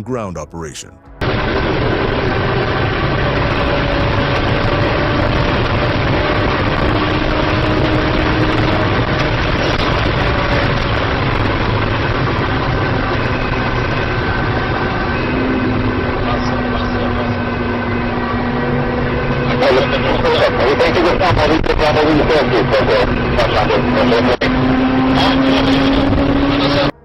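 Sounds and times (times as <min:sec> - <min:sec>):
loud vehicle engine: 0:01.0 - 0:27.0.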